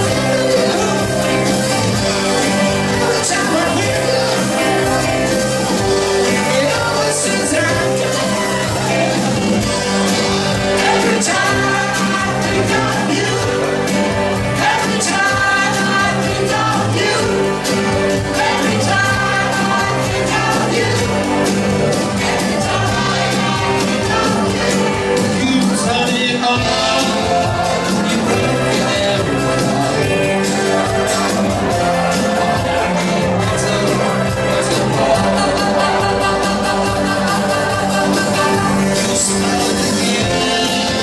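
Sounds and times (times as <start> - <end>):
live rock band playing: 0.0 - 41.0
person singing: 0.0 - 41.0.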